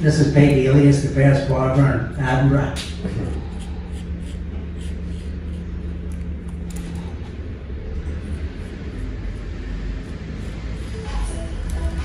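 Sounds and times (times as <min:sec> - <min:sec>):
hum: 0:00.0 - 0:12.0
low rumble: 0:00.0 - 0:12.0
razor scraping scalp: 0:01.3 - 0:07.0, 0:08.0 - 0:12.0.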